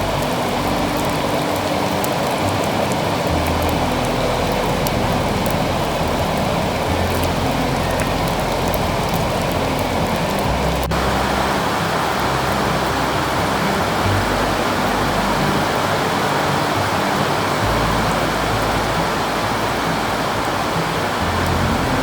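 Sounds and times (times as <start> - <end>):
background music with bass: 0.0 - 22.0
heavy rain pouring: 0.0 - 22.0.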